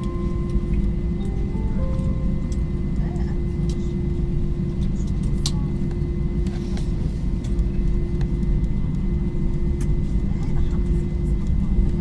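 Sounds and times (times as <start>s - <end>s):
airliner low rumble: 0.0s - 12.0s
constant hum: 0.0s - 12.0s.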